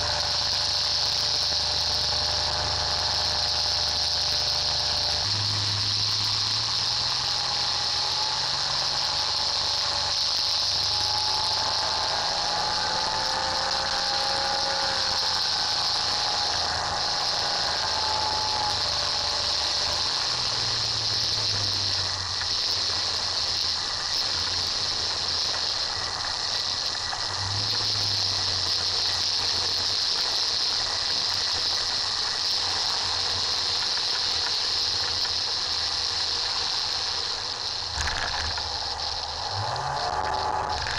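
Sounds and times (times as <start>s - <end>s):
two-stroke aircraft engine: 0.0s - 40.9s
wavering whine: 0.0s - 40.9s
wind hiss: 0.0s - 40.9s.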